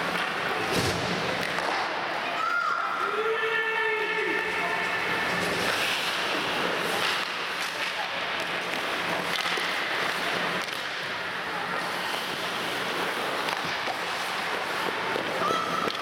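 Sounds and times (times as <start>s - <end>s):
knocks of sticks or puck: 0.0s - 2.7s, 5.3s - 11.2s, 11.8s - 16.0s
skates scraping on ice: 0.0s - 16.0s.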